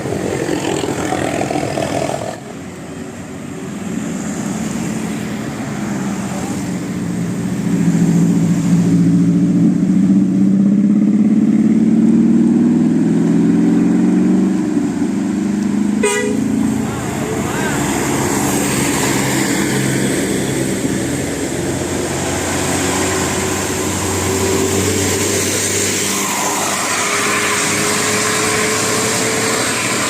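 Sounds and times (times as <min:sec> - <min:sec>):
bus engine revving: 0:00.0 - 0:30.0.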